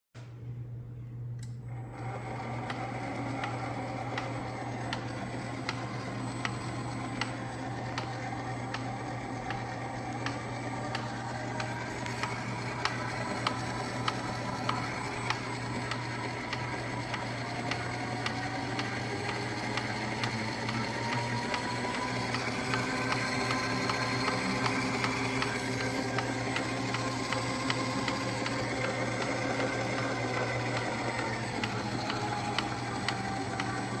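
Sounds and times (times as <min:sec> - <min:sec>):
mixer motor hum: 0:00.5 - 0:34.0
whine drifting in pitch: 0:01.8 - 0:34.0
regular clicking: 0:02.6 - 0:34.0.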